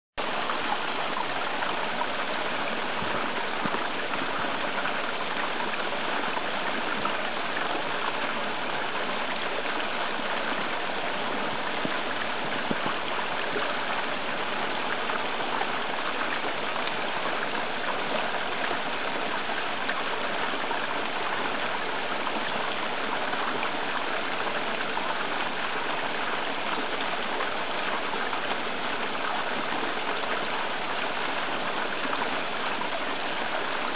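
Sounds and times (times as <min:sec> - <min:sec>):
stream rippling over stones: 0:00.2 - 0:33.9.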